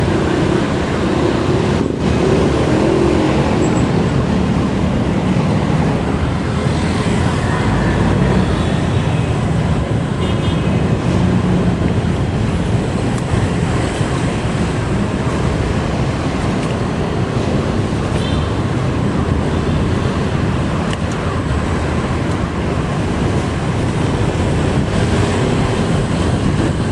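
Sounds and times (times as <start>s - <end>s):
bicycle road noise: 0.0s - 26.9s
wind noise on microphone: 0.0s - 26.9s.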